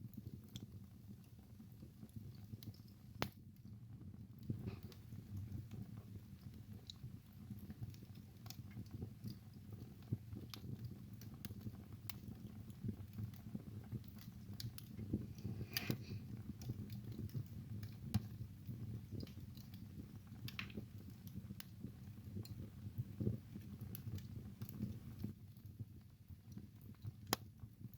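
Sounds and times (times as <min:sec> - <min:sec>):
low rumble of flames: 0:00.0 - 0:27.9
wood fire crackling: 0:00.0 - 0:27.9.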